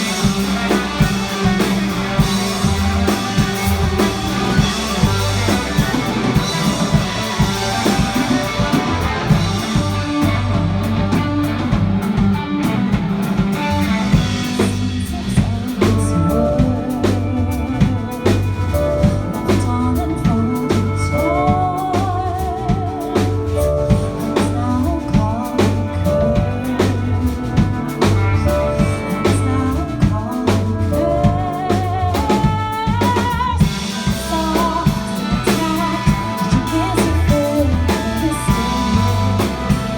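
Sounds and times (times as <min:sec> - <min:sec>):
bass notes: 0:00.0 - 0:39.9
drum kit beat: 0:00.0 - 0:39.9
wavering lead melody: 0:00.0 - 0:39.9.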